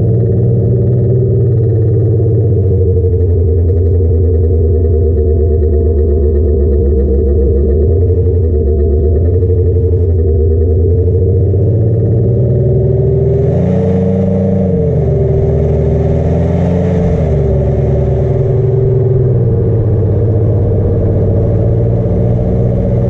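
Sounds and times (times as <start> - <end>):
car exhaust while driving: 0.0 - 23.0.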